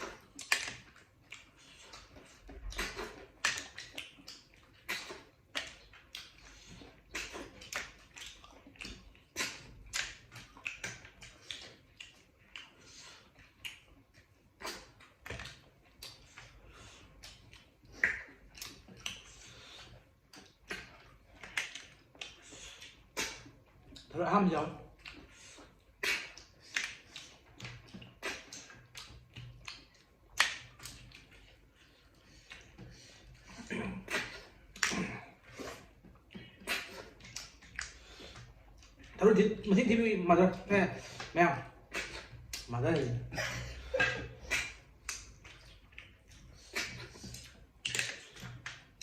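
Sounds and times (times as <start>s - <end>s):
chewing and mouth smacks: 0.0s - 49.0s.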